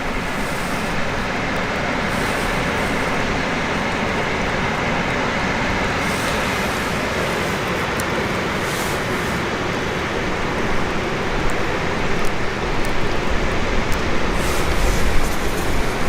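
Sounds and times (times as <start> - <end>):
campfire rushing: 0.0 - 16.0
fire crackles: 0.0 - 16.0.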